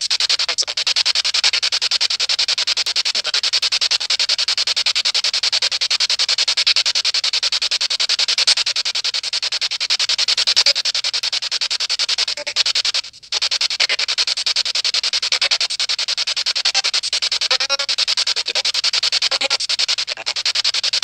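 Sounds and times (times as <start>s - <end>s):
pulsing radio static: 0.0s - 21.0s.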